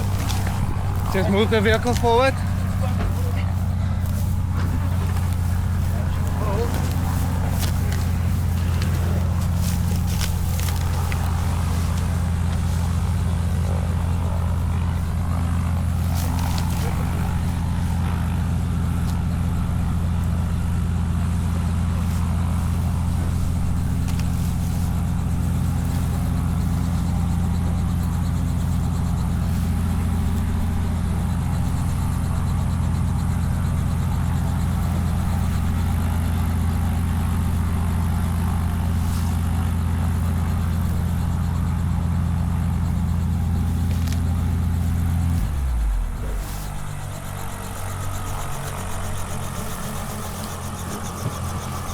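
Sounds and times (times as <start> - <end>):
engine droning steadily: 0.0 - 51.9.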